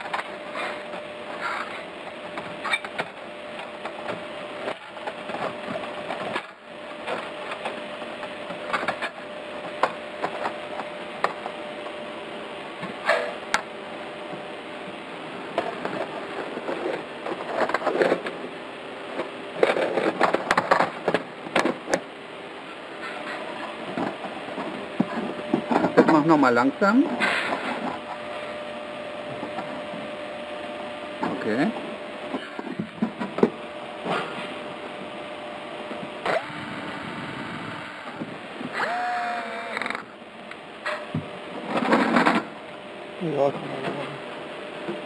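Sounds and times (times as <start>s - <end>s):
steady hum: 0.0s - 45.0s.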